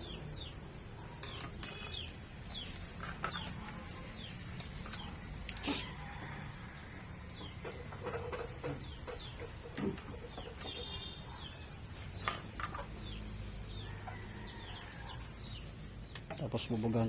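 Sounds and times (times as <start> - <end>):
chickens clucking: 0.0 - 16.4
small birds chirping: 0.0 - 17.0.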